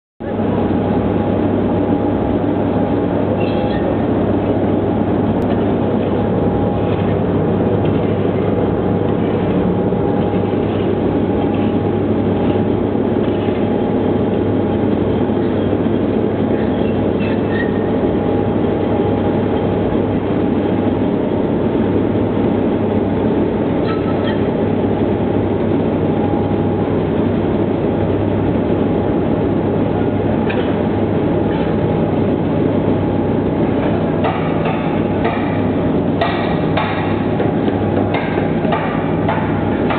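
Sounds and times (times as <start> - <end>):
machinery whine: 0.2 - 39.9.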